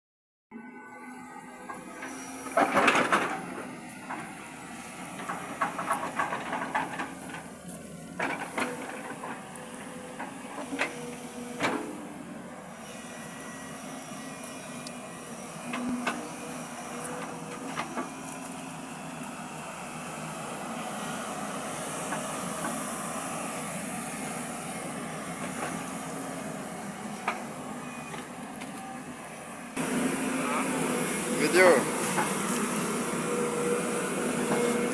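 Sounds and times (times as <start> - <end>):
excavator engine running: 0.8 - 34.9.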